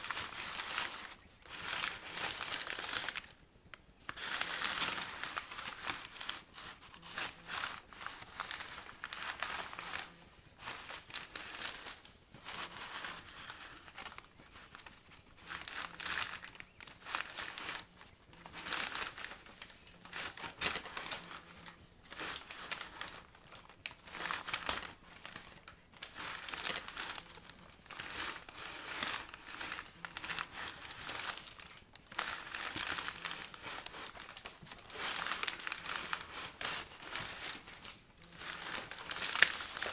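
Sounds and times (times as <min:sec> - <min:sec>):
paper bags crinkling: 0:00.0 - 0:39.9.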